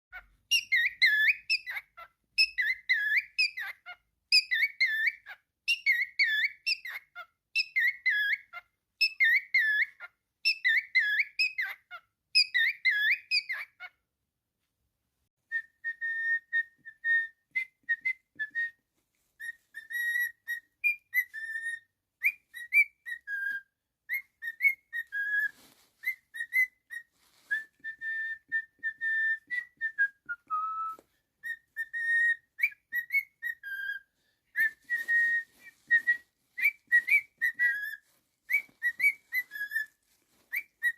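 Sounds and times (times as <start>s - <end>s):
cockatiel whistling: 0.1s - 13.9s, 15.5s - 40.9s.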